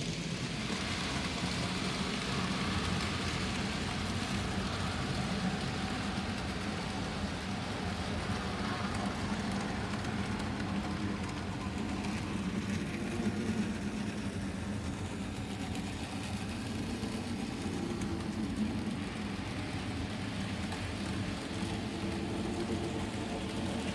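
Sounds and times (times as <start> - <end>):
model train motor humming: 0.0 - 23.9
wheels rolling on track: 0.0 - 23.9.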